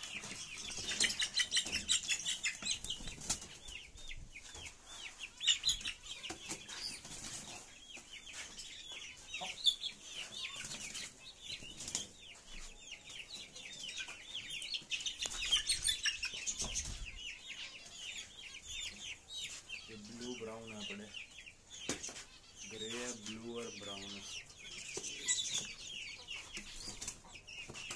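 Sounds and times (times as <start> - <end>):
chicks peeping: 0.0 - 27.9.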